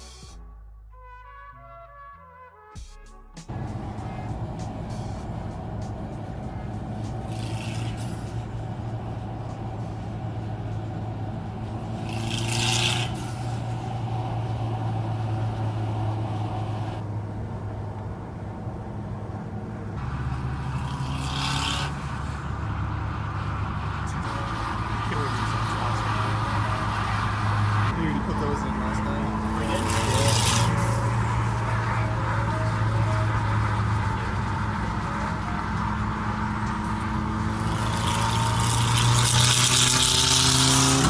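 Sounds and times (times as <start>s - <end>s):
engine and tyre drone: 3.5s - 41.0s.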